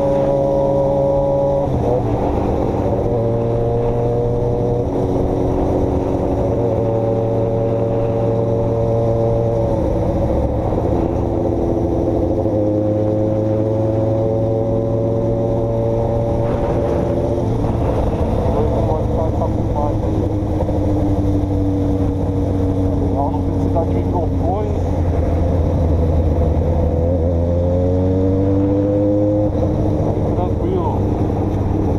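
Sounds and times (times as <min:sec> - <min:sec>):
muffled vehicle engine running: 0:00.0 - 0:31.9.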